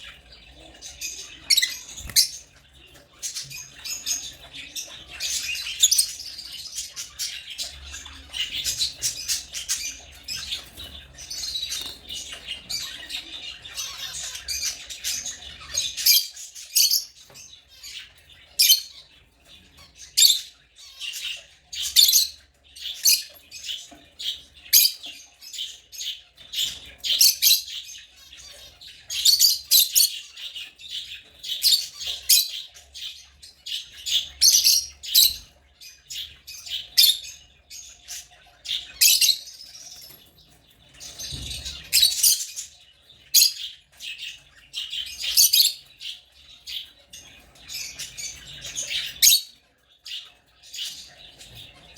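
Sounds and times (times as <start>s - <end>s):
lovebirds chattering and squawking: 0.0s - 51.9s.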